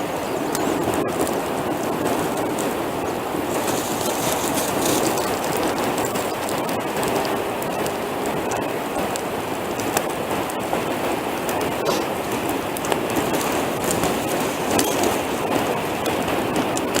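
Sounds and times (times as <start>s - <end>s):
campfire crackling and popping: 0.0s - 17.0s
fire hissing: 0.0s - 17.0s.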